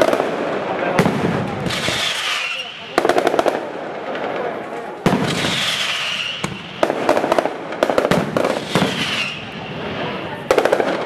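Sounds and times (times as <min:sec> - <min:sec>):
firecracker bangs: 0:00.0 - 0:11.0.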